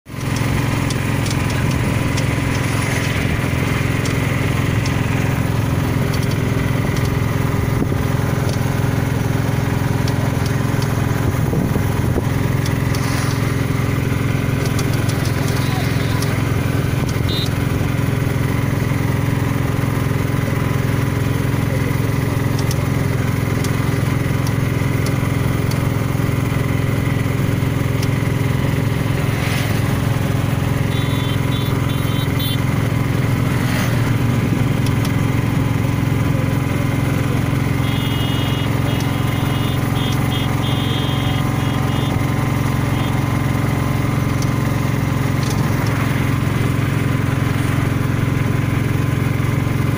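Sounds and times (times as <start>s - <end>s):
vehicle engine drone: 0.0s - 49.9s.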